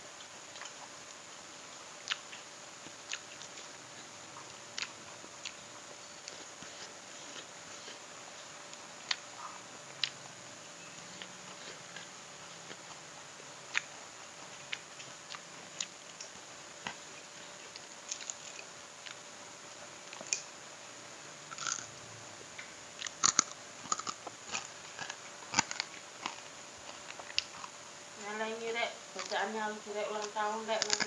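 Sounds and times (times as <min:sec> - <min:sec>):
faint steady hum: 0:00.0 - 0:31.0
crunching and chewing: 0:00.2 - 0:20.5, 0:21.4 - 0:22.0, 0:22.6 - 0:27.9, 0:29.1 - 0:29.5, 0:30.1 - 0:31.0.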